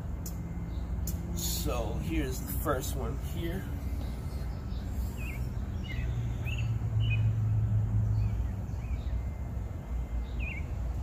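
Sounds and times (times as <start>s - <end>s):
low steady hum: 0.0s - 11.0s
small birds chirping: 0.1s - 11.0s.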